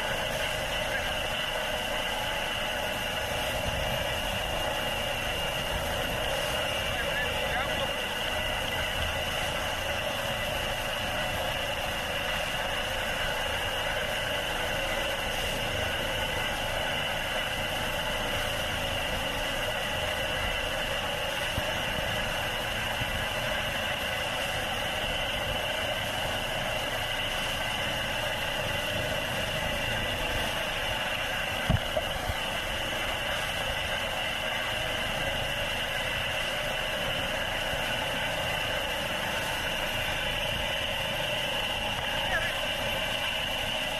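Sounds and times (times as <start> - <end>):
helicopter rushing and whining: 0.0 - 43.9.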